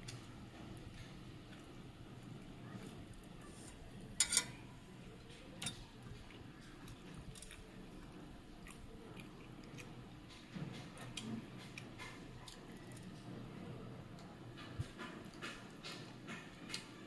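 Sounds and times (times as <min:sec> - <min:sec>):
child chewing: 0:00.0 - 0:03.8, 0:04.6 - 0:13.5, 0:14.1 - 0:17.0.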